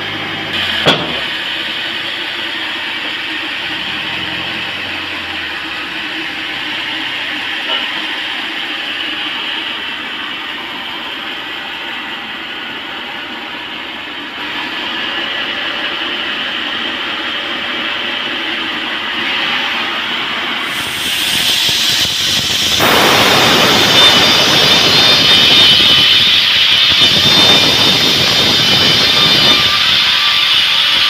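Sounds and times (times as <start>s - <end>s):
saw whining: 0.0s - 10.2s, 14.4s - 31.0s.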